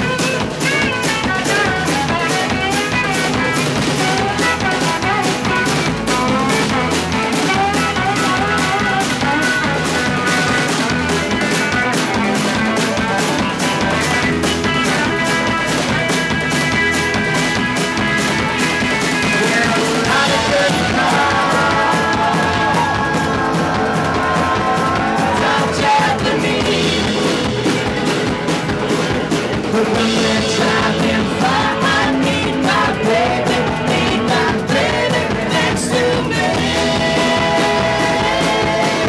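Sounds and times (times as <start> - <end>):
drum kit beat with cymbals: 0.0 - 39.0
live rock band playing: 0.0 - 39.0.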